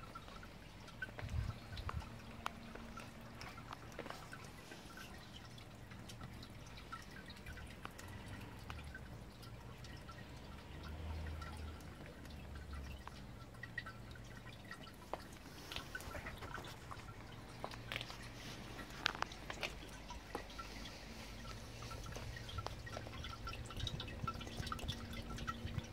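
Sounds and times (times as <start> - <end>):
water dripping into basin: 0.0 - 25.9.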